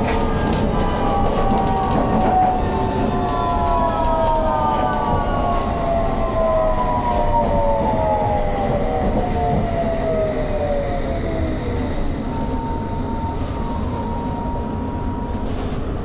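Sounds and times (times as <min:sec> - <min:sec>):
falling multi-tone whine: 0:00.0 - 0:16.0
underground train rumble: 0:00.0 - 0:16.0.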